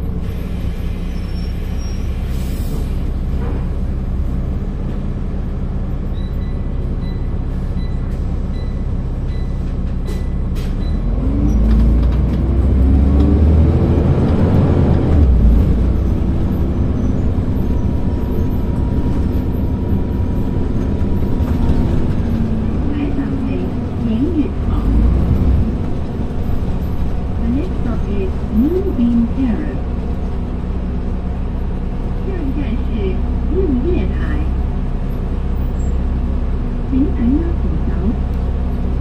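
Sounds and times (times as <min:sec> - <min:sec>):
bus diesel engine: 0:00.0 - 0:39.0.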